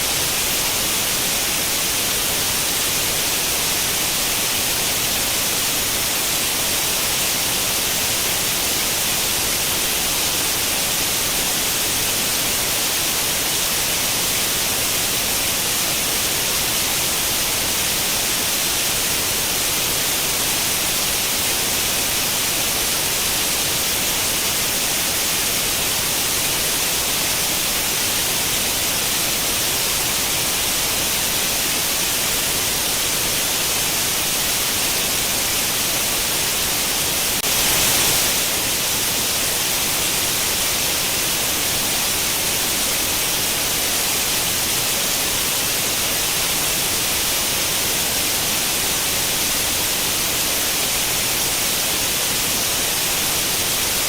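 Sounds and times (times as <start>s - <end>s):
television static hiss: 0.0s - 54.0s.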